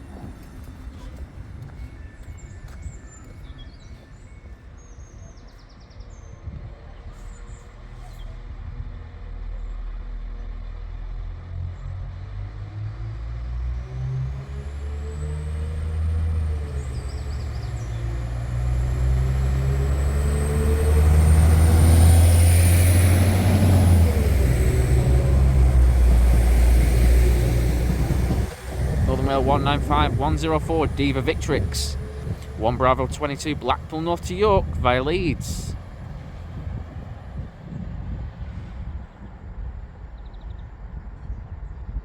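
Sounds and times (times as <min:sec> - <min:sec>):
train diesel engine: 0:00.0 - 0:40.2.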